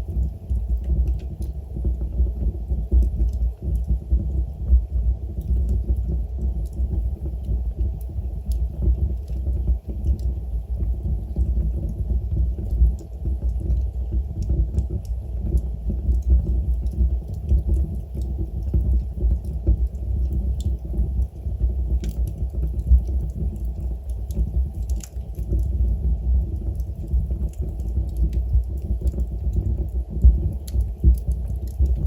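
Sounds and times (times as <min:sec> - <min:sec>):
low rumble of flames: 0:00.0 - 0:32.0
wood crackling and popping: 0:00.0 - 0:32.0.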